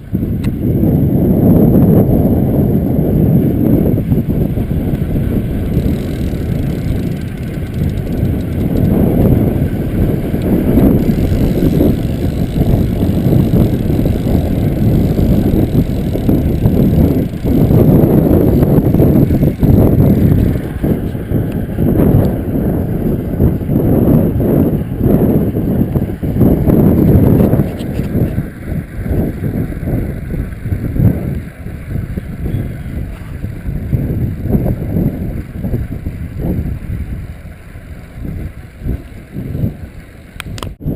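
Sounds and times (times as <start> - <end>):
wind buffeting on microphone: 0.0 - 40.9.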